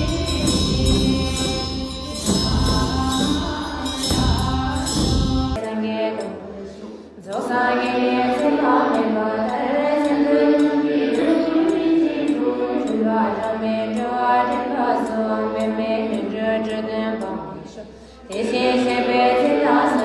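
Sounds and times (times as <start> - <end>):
nuns chanting melodically: 0.0 - 20.0.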